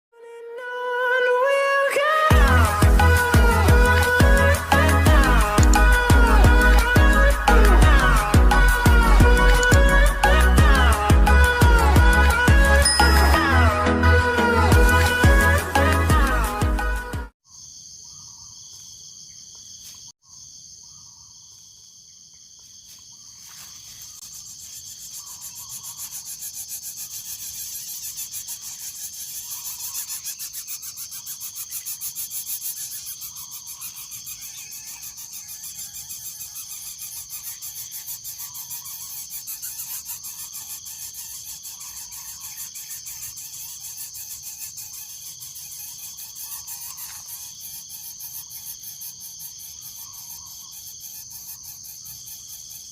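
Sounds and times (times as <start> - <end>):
crickets trilling: 1.5 - 13.6, 17.4 - 52.9.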